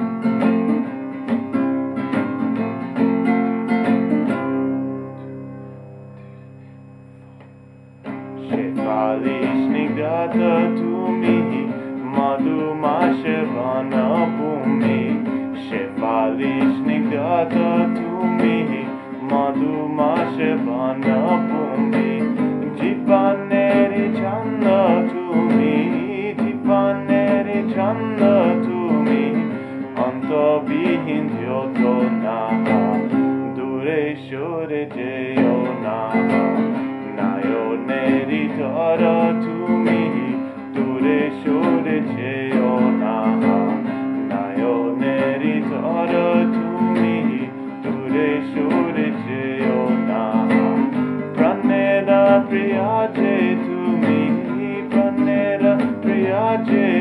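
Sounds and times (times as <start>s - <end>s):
classical guitar chords: 0.0s - 57.0s.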